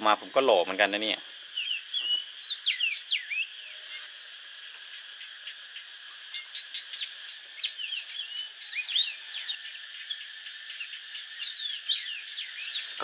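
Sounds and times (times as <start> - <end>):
birds chirping: 0.0 - 13.0
cicadas droning: 0.0 - 13.0.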